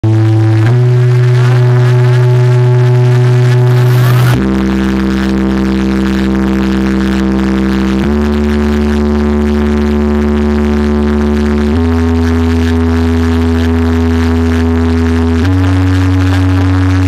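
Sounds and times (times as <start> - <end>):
bass-heavy synth tones: 0.0 - 17.0.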